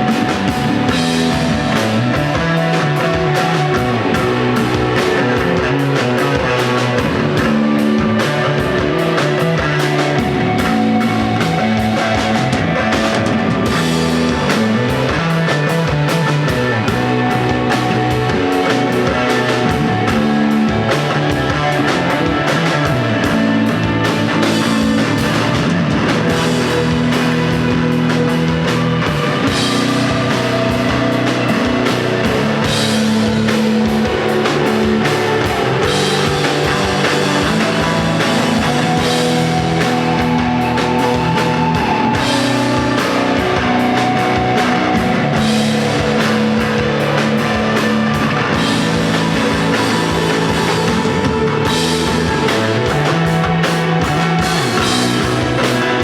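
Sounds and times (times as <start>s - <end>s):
bass guitar: 0.0s - 56.0s
drum kit: 0.0s - 56.0s
electric guitar sustained notes: 0.0s - 56.0s.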